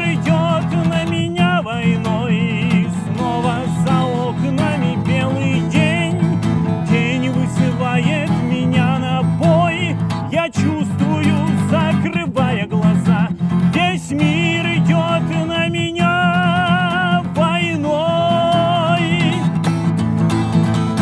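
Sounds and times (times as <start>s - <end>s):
man singing wordless melody: 0.0s - 19.6s
acoustic guitar strumming: 0.0s - 21.0s.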